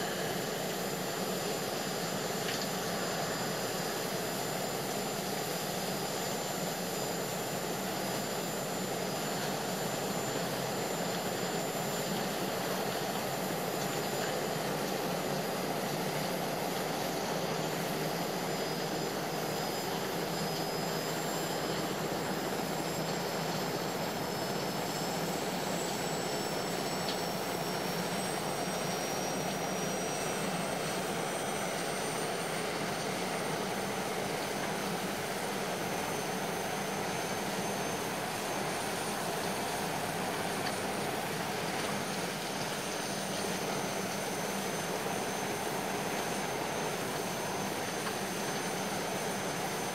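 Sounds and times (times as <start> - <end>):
jet engine whine: 0.0 - 49.9.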